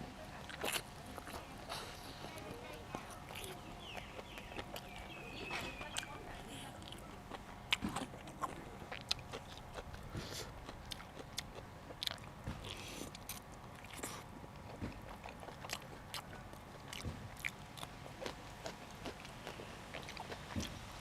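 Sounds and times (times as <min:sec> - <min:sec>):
person chewing crunchy food: 0:00.4 - 0:20.9.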